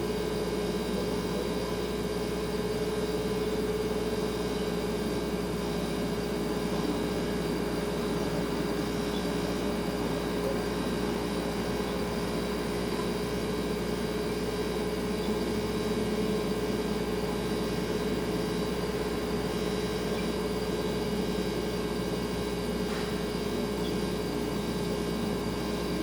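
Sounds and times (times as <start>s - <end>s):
refrigerator humming: 0.0s - 26.0s.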